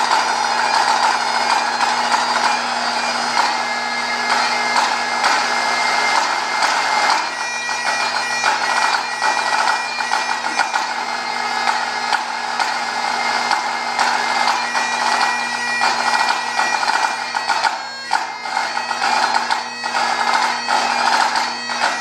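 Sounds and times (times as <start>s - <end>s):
bagpipe playing a tune: 0.0s - 22.0s
snare drum strokes and rolls: 0.0s - 22.0s.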